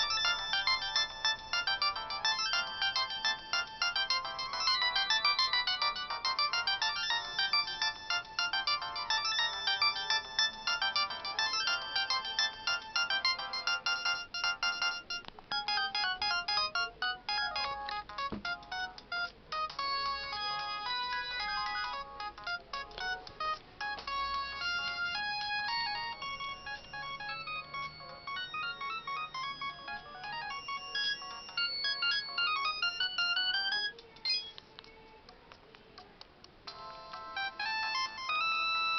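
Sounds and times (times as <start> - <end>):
ringtone melody of dense chords: 0.0 - 34.6, 36.7 - 38.9
ringtone of quick high notes: 0.0 - 34.6.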